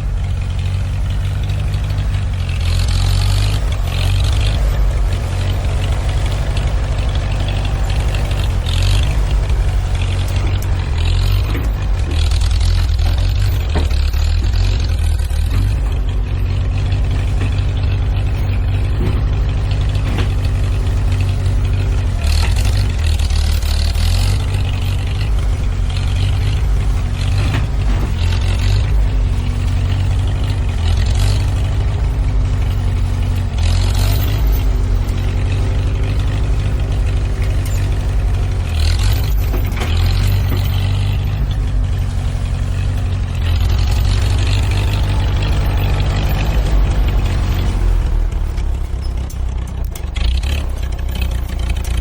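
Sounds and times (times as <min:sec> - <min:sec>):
clatter: 0:00.0 - 0:52.0
tractor engine running: 0:00.0 - 0:52.0.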